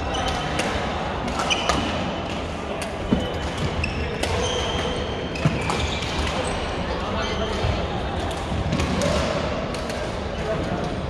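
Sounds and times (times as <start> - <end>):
sports hall din: 0.0 - 11.0.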